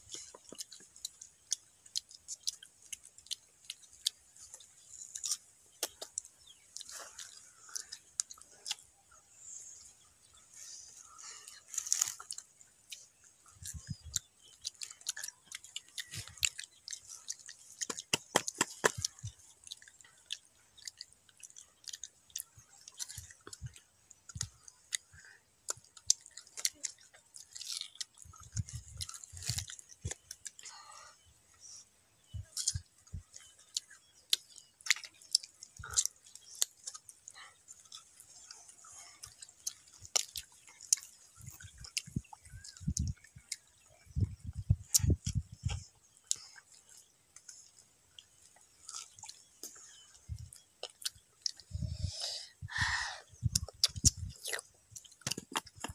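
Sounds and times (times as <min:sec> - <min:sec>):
biting and chewing crisp mango: 0:00.0 - 0:55.9.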